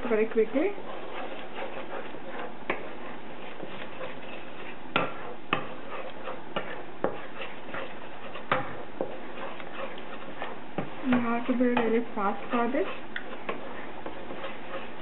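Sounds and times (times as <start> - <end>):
spoon scraping eggs in a pot: 0.0 - 15.0.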